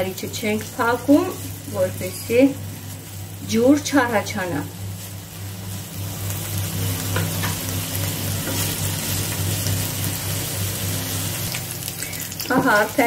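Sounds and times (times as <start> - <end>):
ham sizzling in a frying pan: 0.0 - 13.0
low steady hum: 0.0 - 13.0.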